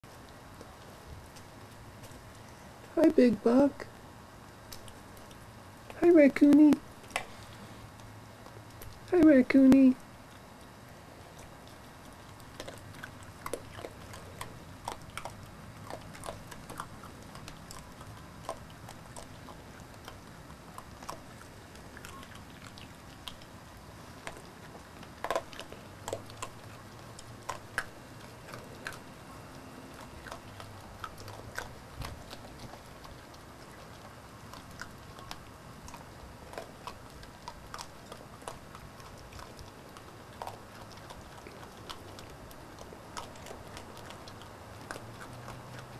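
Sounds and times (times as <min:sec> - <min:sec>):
deer crunching grain: 0:00.0 - 0:45.9.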